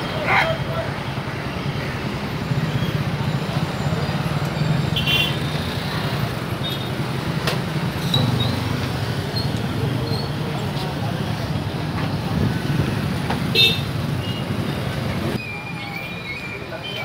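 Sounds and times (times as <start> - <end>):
road and traffic noise: 0.0 - 17.0.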